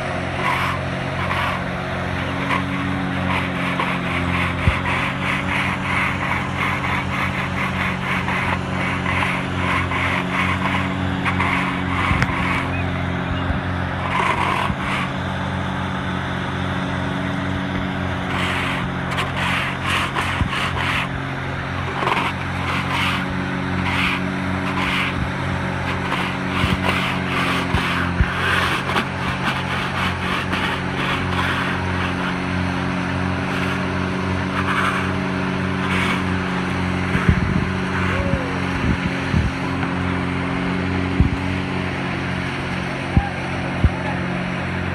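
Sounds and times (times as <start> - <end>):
hand tools scraping wet concrete: 0.0 - 15.5, 17.0 - 44.9
heavy engine droning: 0.0 - 44.9.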